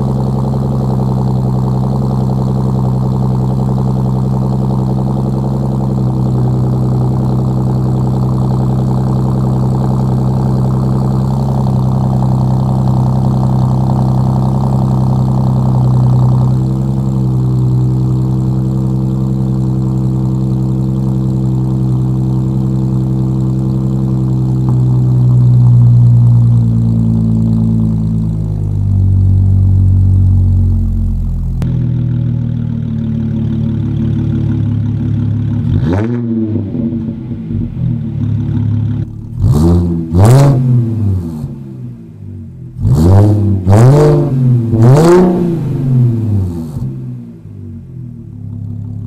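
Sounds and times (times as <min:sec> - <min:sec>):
car engine idling high: 0:00.0 - 0:49.0.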